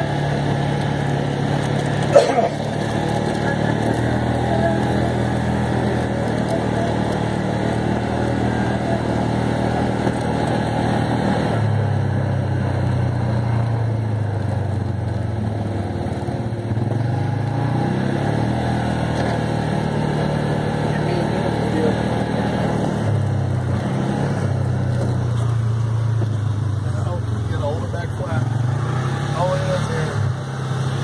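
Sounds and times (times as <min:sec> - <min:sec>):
off-road vehicle engine running: 0:00.0 - 0:31.0
rumbling tyre and chassis noise: 0:00.0 - 0:31.0.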